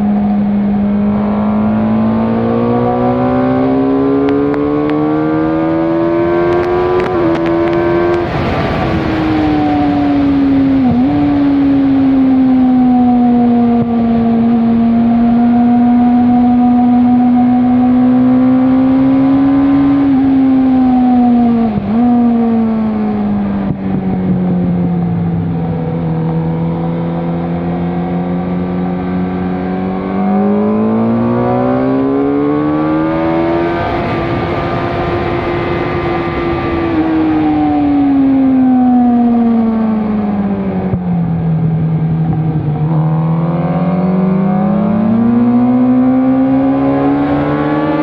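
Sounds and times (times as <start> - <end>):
motorcycle engine revving: 0.0 - 48.0
wind noise: 0.0 - 48.0.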